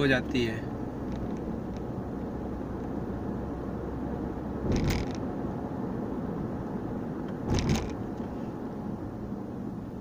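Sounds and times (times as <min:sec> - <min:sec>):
car cabin road noise: 0:00.0 - 0:10.0.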